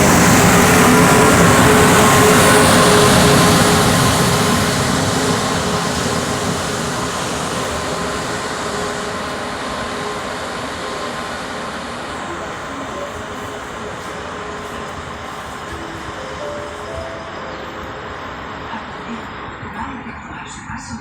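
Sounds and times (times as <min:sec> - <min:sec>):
train rolling along rails: 0:00.0 - 0:21.0.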